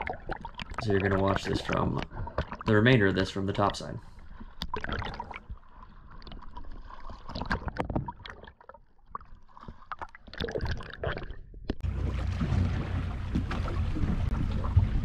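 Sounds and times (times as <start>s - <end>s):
water sloshing and gurgling: 0.0s - 15.0s.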